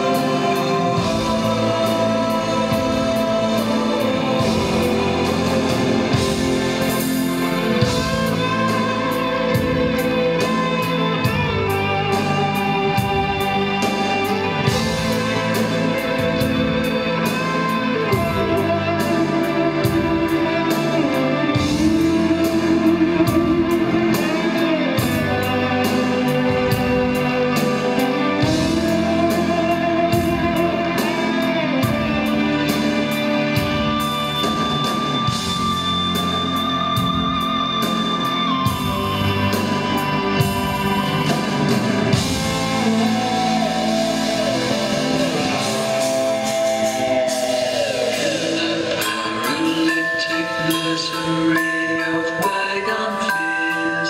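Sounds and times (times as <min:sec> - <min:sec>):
bass: 0:00.0 - 0:54.0
drums: 0:00.0 - 0:54.0
electric guitar lead: 0:00.0 - 0:54.0.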